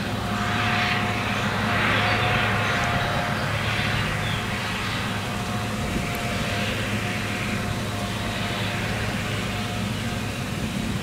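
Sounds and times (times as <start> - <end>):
thin steady whine: 0.0 - 11.0
tractor engine running: 0.0 - 11.0.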